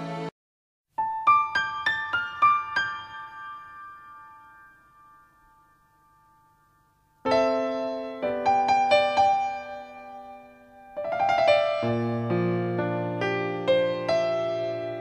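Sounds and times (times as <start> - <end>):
gentle piano melody: 1.0 - 15.0.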